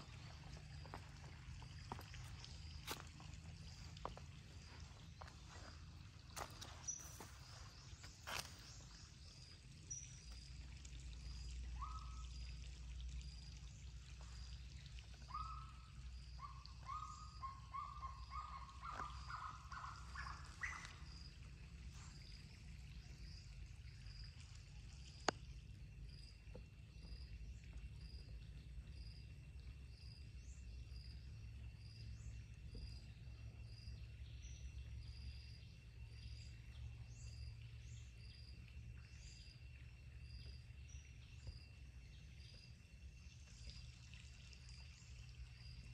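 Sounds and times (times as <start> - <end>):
constant low rumble: 0.0 - 45.9.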